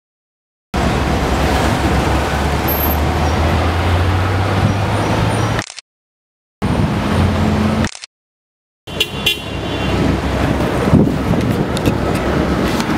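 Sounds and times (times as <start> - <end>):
street traffic rumble: 0.8 - 5.8, 6.6 - 8.1, 8.9 - 12.9.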